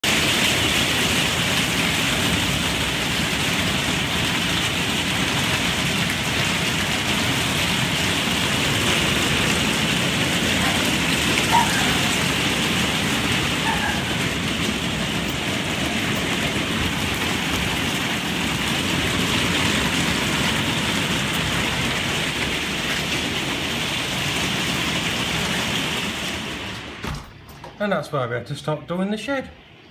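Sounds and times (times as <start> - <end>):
heavy rain and hail falling: 0.0 - 27.8.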